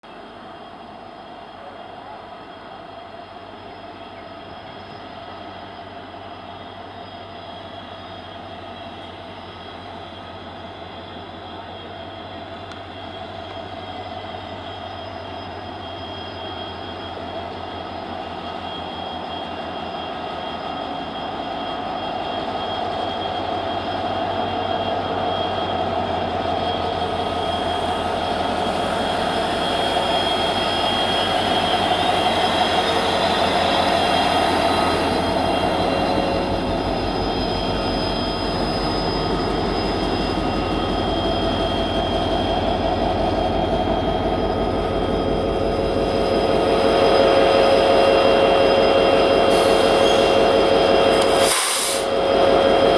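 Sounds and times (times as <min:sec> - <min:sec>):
diesel locomotive humming: 0:00.1 - 0:52.9.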